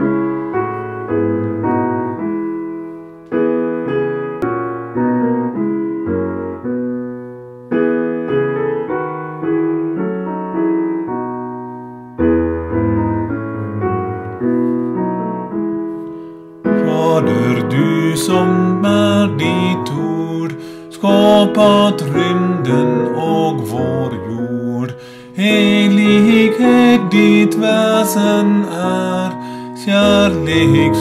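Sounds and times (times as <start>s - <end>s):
piano playing hymn chords: 0.0s - 31.0s.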